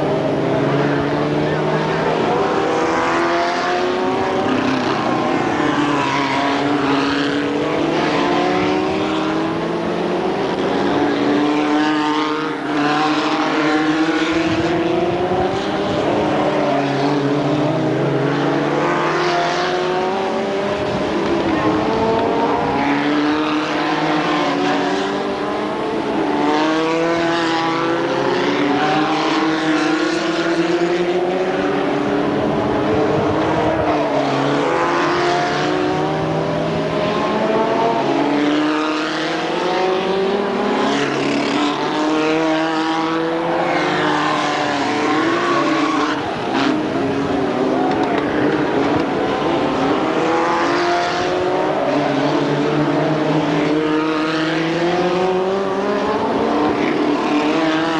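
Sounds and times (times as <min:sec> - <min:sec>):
racing car engines passing: 0:00.0 - 0:57.9.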